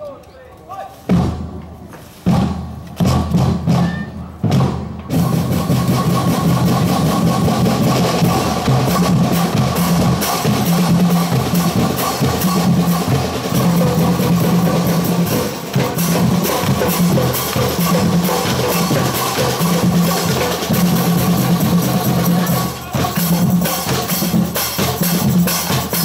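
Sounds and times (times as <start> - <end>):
marching drum line: 1.0 - 26.0.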